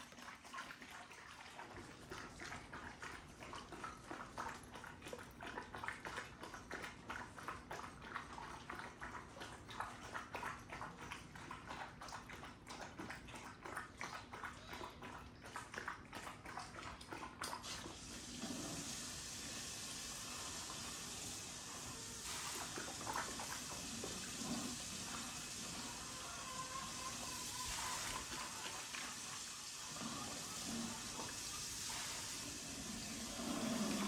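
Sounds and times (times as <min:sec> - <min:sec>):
dog lapping water: 0:00.0 - 0:34.0.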